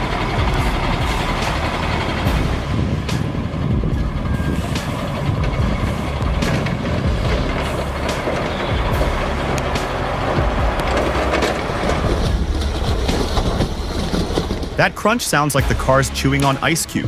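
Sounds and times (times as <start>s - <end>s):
heavy truck engine rumbling: 0.0s - 17.0s
road and chassis noise: 0.0s - 17.0s.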